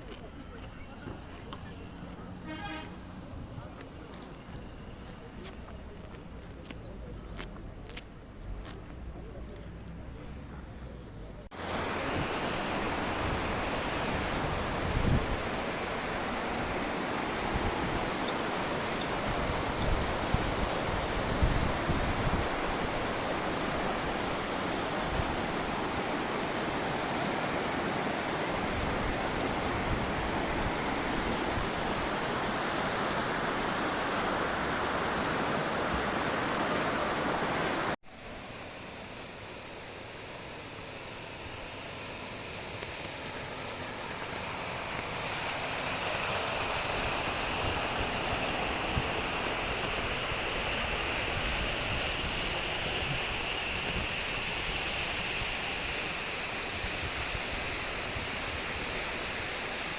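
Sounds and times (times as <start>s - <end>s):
rushing water: 11.4s - 59.9s.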